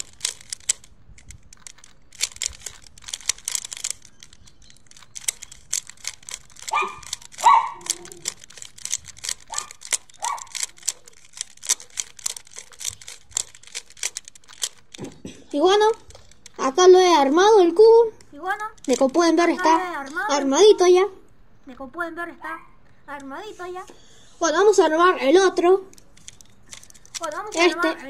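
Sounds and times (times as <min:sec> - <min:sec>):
puzzle cube clicking turns: 0:00.0 - 0:21.0, 0:22.8 - 0:28.0.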